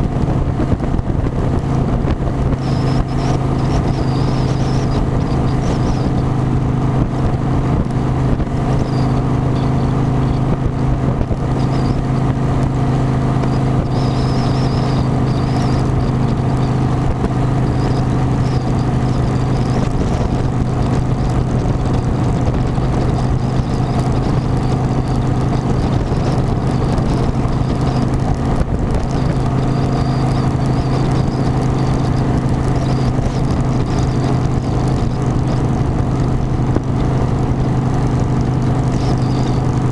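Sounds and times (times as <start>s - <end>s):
motorcycle engine droning: 0.0s - 39.9s
rushing wind noise: 0.0s - 39.9s.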